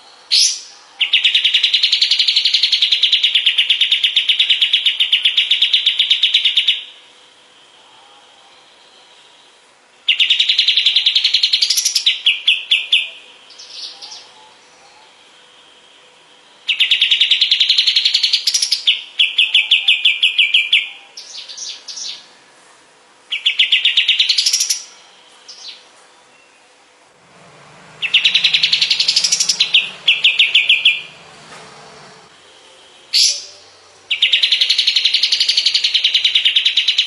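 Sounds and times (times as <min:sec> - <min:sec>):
bird singing trills: 0:00.0 - 0:07.0, 0:07.8 - 0:22.5, 0:23.3 - 0:37.0.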